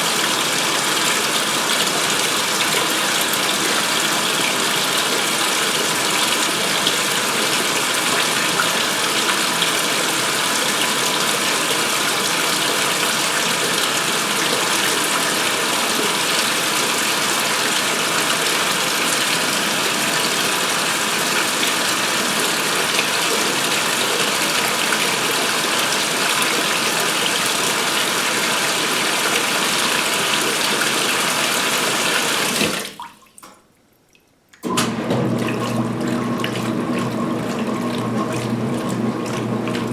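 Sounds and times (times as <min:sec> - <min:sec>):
water pouring into washer tub: 0:00.0 - 0:33.6, 0:34.6 - 0:39.9.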